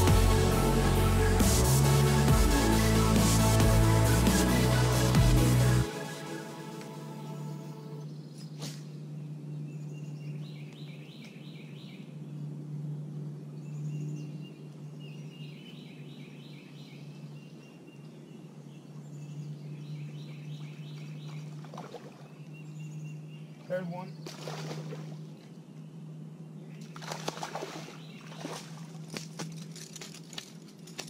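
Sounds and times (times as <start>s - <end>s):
low hum: 0.0s - 16.2s, 17.0s - 31.0s
songbird singing: 0.0s - 29.8s.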